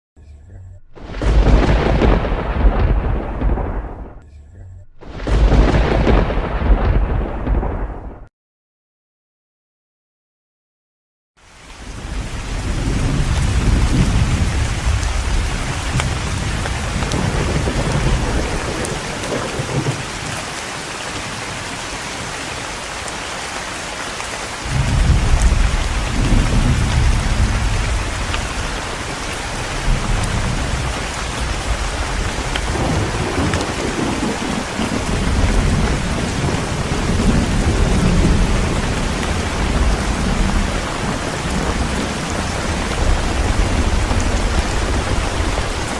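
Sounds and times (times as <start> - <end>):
thunder rumbling: 0.8 - 4.2, 4.9 - 8.3, 11.7 - 45.9
heavy rain falling: 0.9 - 4.2, 5.0 - 8.1, 11.4 - 45.9.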